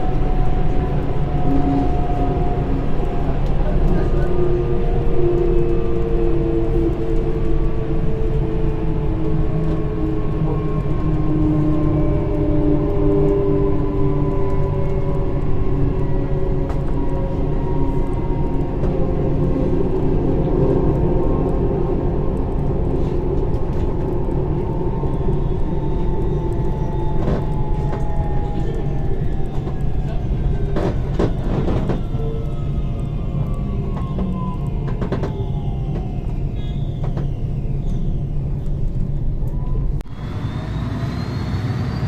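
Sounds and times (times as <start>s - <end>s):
tram train running on track: 0.0s - 42.0s.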